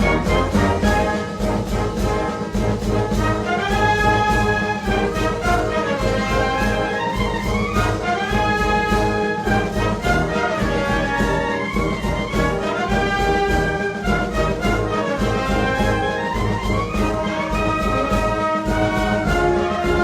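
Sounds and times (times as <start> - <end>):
steady drum beat: 0.0 - 20.0
wind band brass melody: 0.0 - 20.0.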